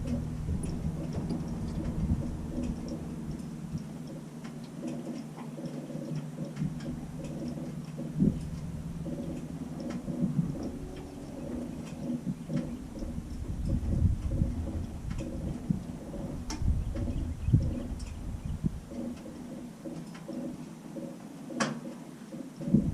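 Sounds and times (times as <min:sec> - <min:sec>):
light aircraft engine running: 0:00.0 - 0:22.9.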